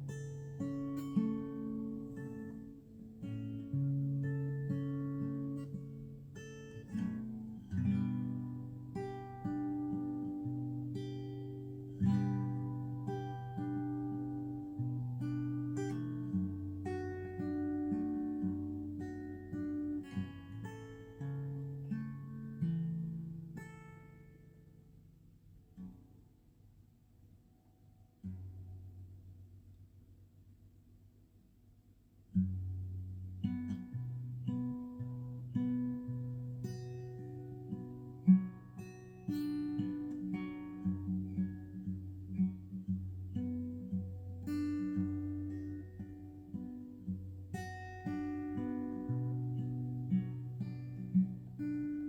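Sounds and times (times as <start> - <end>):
acoustic guitar chords: 0.0 - 26.0, 32.3 - 52.0.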